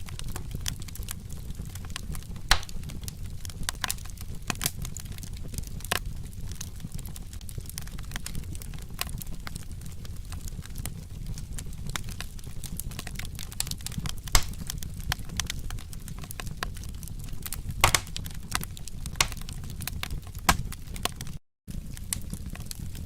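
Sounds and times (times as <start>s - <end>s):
low rumble of burning: 0.0s - 23.0s
wood fire crackling: 0.0s - 23.0s
sharp pops of fire: 0.1s - 23.0s.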